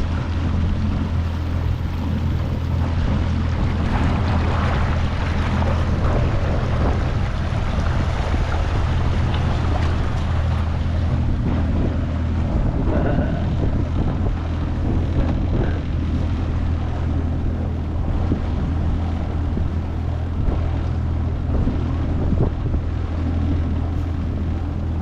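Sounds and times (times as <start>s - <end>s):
outboard motor running: 0.0s - 25.0s
wind buffeting microphone: 0.0s - 25.0s.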